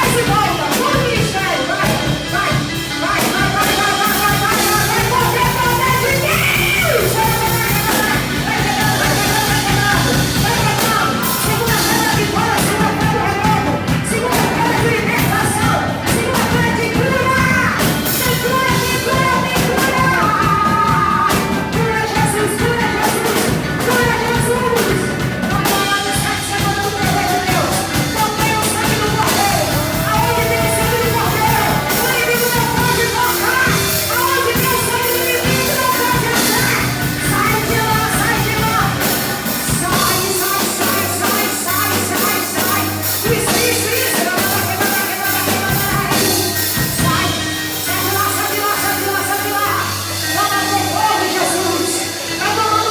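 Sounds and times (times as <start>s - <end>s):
band with drums: 0.0s - 52.9s
voices singing: 0.0s - 52.9s.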